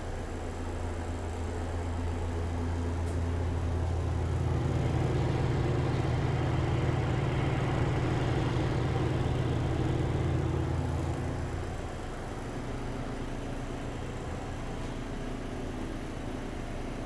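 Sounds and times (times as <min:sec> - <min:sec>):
exhaust fan rattly hum: 0:00.0 - 0:17.0.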